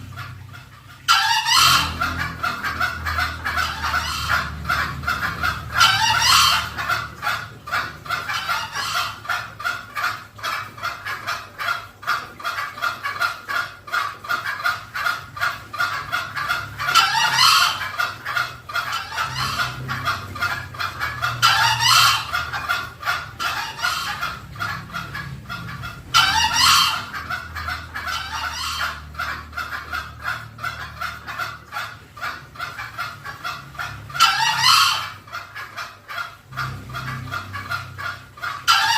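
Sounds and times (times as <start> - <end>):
junglefowl clucking: 0.0 - 38.9
junglefowl crowing: 1.0 - 38.9.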